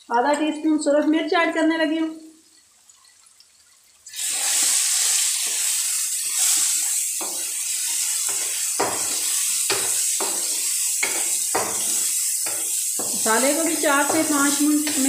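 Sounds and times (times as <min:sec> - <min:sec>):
spices sizzling in oil: 0:00.0 - 0:15.0.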